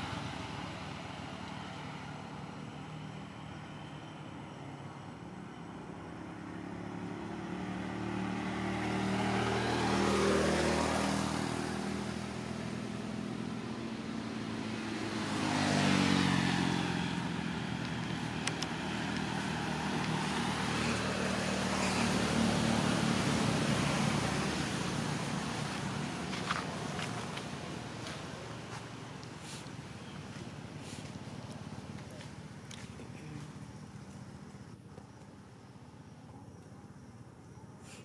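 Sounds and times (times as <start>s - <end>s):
vehicle engines passing by: 0.0s - 38.0s.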